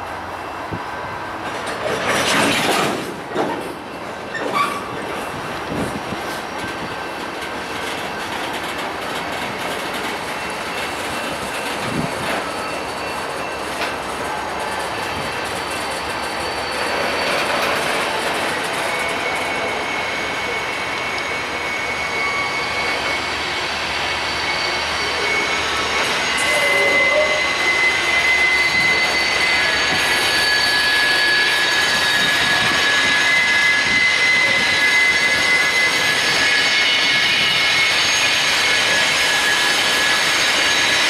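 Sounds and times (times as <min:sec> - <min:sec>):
high wheel squeals: 0:00.0 - 0:41.0
train wheels on rail: 0:00.0 - 0:41.0.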